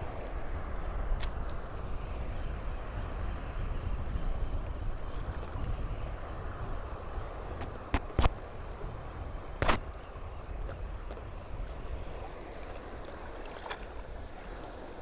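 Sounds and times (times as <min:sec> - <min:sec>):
wind rumbling on microphone: 0:00.0 - 0:15.0
waves washing on reef: 0:01.7 - 0:15.0.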